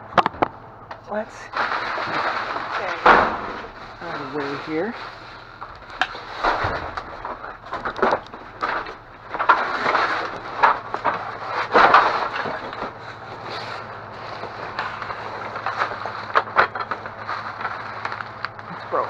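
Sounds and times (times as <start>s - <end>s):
items clattering in dumpster: 0.0s - 19.0s
steady low hum: 0.0s - 19.0s.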